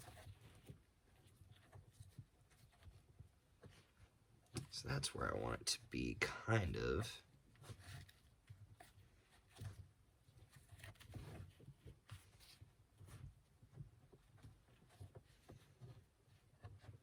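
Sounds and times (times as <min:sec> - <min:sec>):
cord rustling and tapping: 0:00.0 - 0:04.8, 0:06.9 - 0:17.0.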